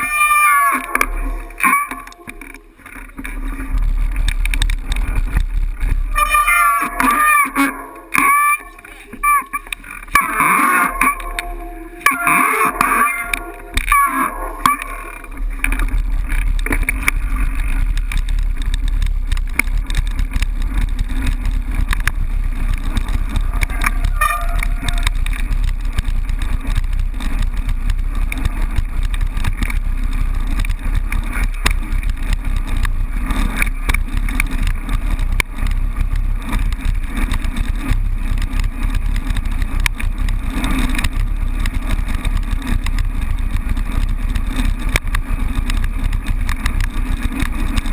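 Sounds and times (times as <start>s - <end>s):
bike wind and road rumble: 0.0s - 47.9s
tyres rattling over loose stones: 0.0s - 47.9s.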